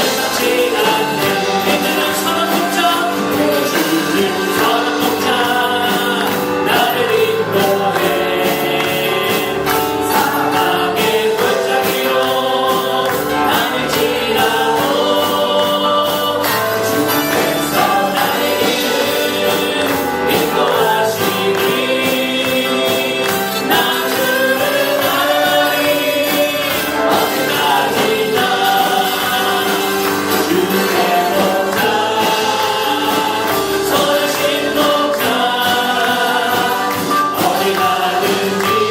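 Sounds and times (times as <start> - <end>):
choir singing gospel with band: 0.0 - 38.9.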